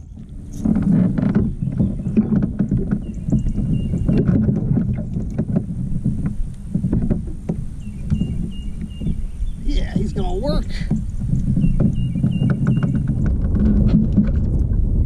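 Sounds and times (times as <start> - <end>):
knocks and thumps against kayak hull: 0.0 - 15.0.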